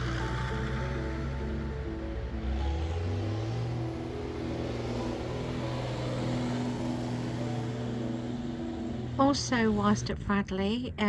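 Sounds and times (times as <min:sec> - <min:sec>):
tractor engine pulling away: 0:00.0 - 0:10.8
background music: 0:00.0 - 0:11.0.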